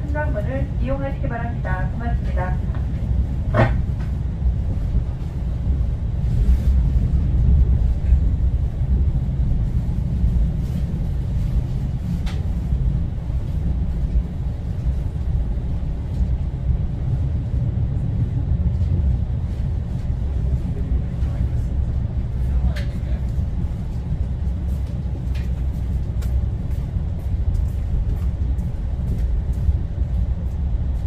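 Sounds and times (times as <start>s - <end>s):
train rumbling along track: 0.0s - 31.0s.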